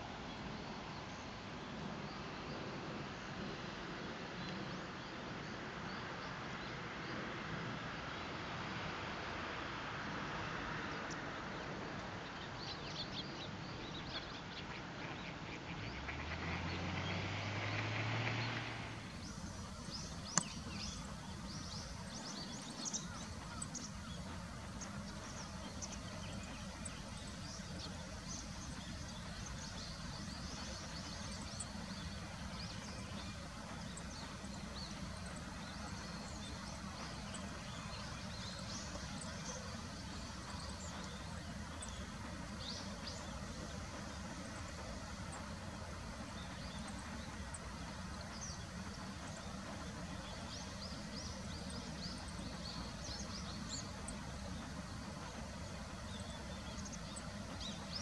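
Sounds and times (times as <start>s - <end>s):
low background hum: 11.0s - 58.0s.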